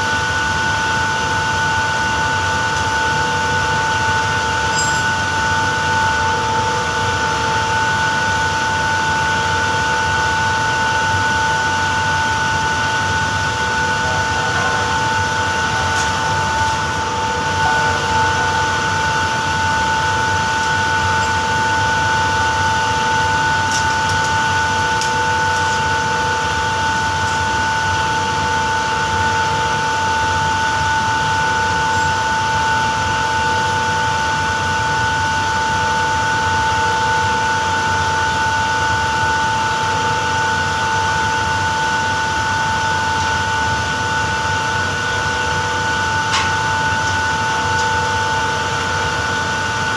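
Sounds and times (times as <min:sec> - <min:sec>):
refrigeration machinery whining: 0:00.0 - 0:49.9.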